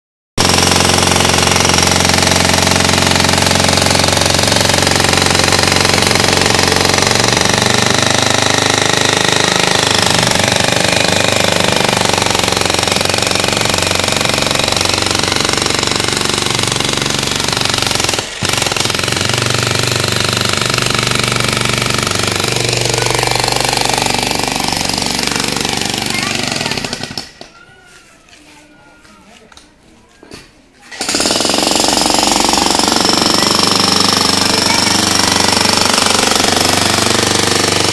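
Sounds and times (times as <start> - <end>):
demolition hammer chiselling concrete: 0.4 - 27.4, 30.9 - 37.9.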